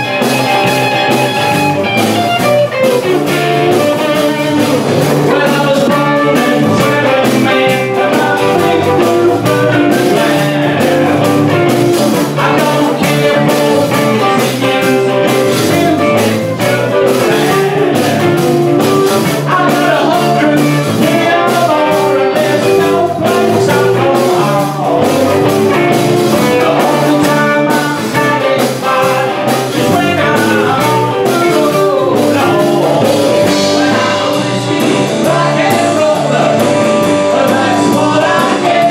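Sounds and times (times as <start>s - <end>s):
bass guitar: 0.0s - 38.9s
drum kit beat: 0.0s - 38.9s
electric guitars: 0.0s - 38.9s
person singing: 2.3s - 38.9s.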